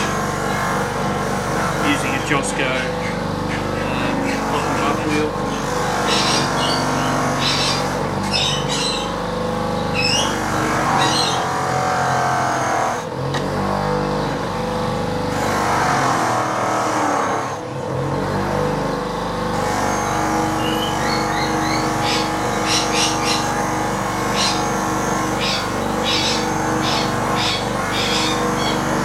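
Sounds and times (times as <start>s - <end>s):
buffing machine motor hum: 0.0s - 29.0s.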